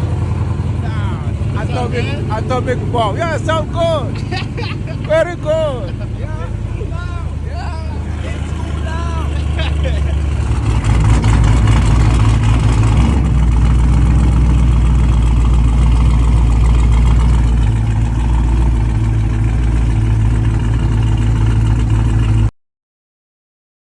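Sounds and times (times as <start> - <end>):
car engine choppy idle: 0.0 - 22.5.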